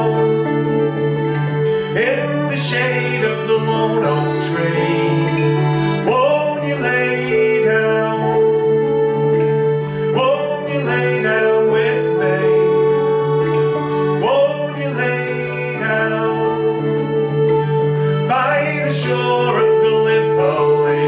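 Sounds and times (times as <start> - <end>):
accordion chords: 0.0 - 21.0
plucked banjo: 0.0 - 21.0
strummed acoustic guitar: 0.0 - 21.0.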